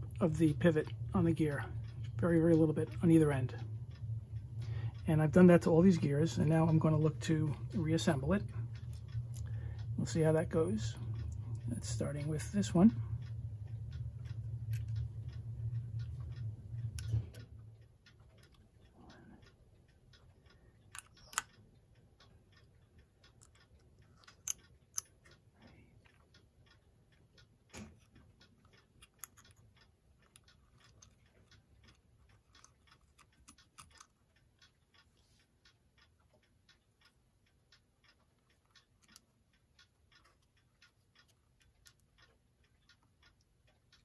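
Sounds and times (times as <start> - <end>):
faint clock ticking: 0.0 - 44.0
low hum: 0.0 - 44.0
small metal clicks of clock parts: 0.0 - 44.0.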